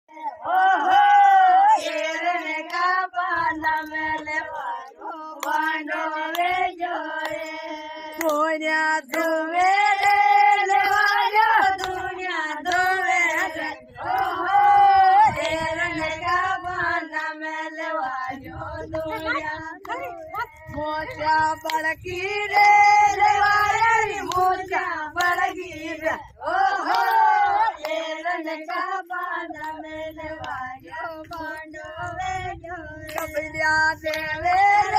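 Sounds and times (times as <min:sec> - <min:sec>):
women singing without instruments: 0:00.1 - 0:34.9.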